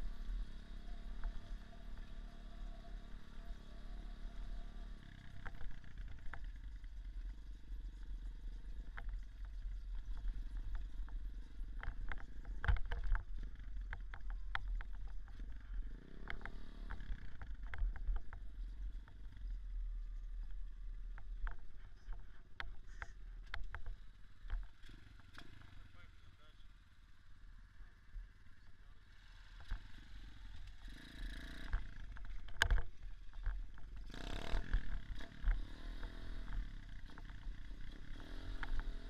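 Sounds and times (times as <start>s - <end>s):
motorcycle engine rumbling: 0.0s - 39.0s.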